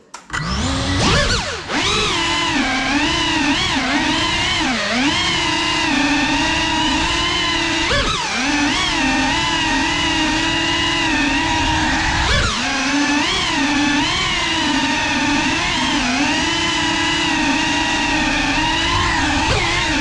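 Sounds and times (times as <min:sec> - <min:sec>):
drone motors whining: 0:00.3 - 0:20.0.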